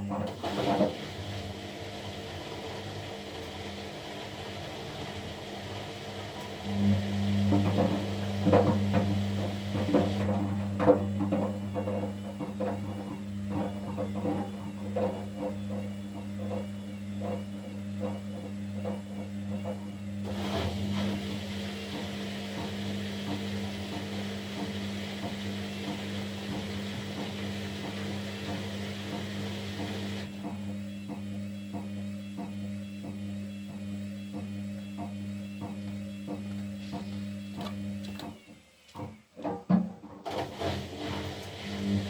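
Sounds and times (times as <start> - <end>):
washing machine motor hum: 0.0 - 42.0
drum knocking laundry: 7.4 - 41.6.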